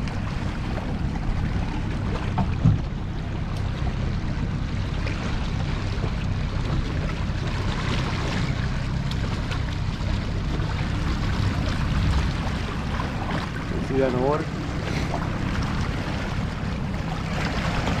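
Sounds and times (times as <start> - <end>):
outboard engine running: 0.0 - 18.0
water washing past hull: 0.0 - 18.0.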